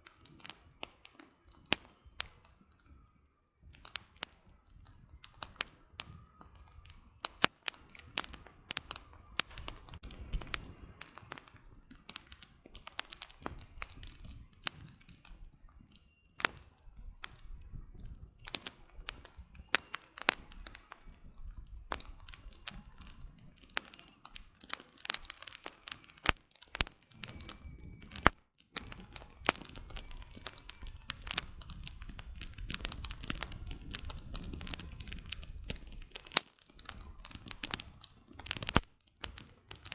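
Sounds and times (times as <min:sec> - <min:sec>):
firewood crackling and popping: 0:00.0 - 0:39.9
low rumble of flame: 0:00.0 - 0:39.9.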